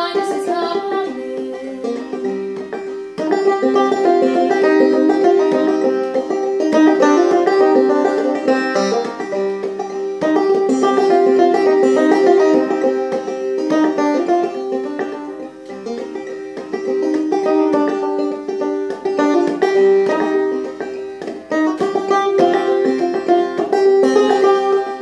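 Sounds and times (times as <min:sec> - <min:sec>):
banjo playing: 0:00.0 - 0:25.0.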